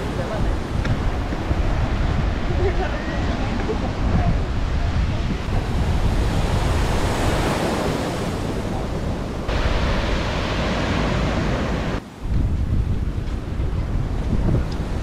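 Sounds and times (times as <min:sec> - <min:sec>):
ocean surf on beach: 0:00.0 - 0:15.0
wind buffeting microphone: 0:00.0 - 0:15.0.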